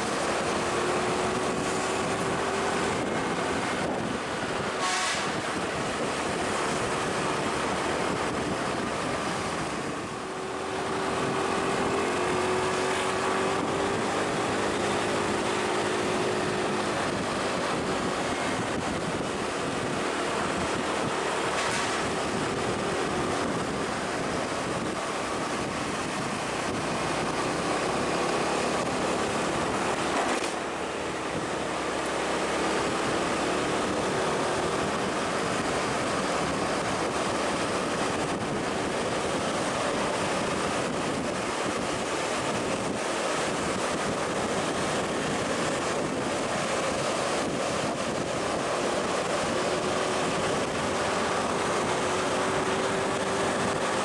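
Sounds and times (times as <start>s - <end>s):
heavy vehicle engine running: 0.0s - 54.0s
wind noise on microphone: 0.0s - 54.0s.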